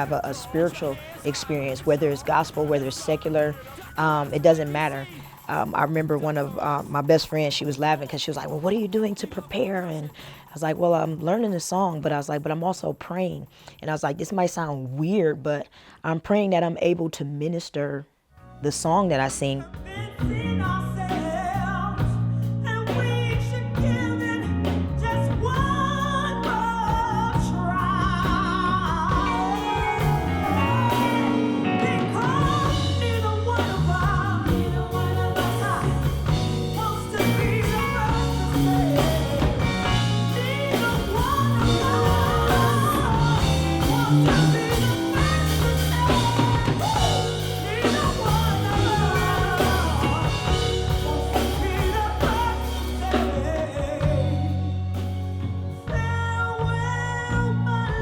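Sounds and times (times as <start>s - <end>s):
band playing bass drums guitar: 0.0s - 11.4s, 19.4s - 58.0s
person singing with vibrato: 0.0s - 11.9s, 19.6s - 55.0s.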